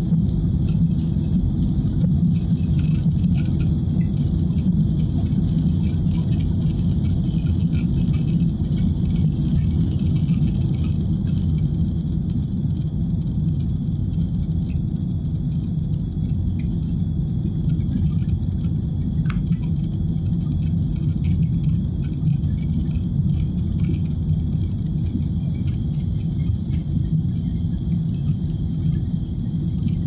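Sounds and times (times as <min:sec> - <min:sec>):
jet engines rumbling in cabin: 0:00.0 - 0:30.0.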